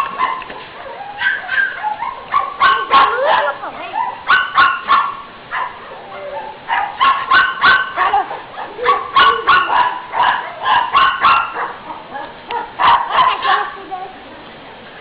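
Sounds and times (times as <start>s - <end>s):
dog barking: 0.0s - 3.6s, 4.2s - 13.8s.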